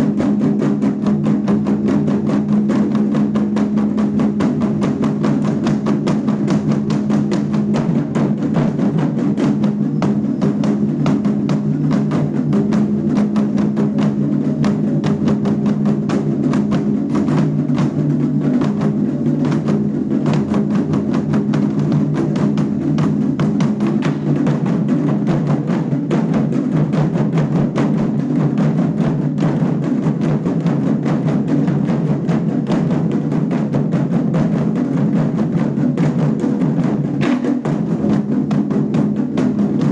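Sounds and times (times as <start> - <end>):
drum ensemble drumming: 0.0 - 39.9.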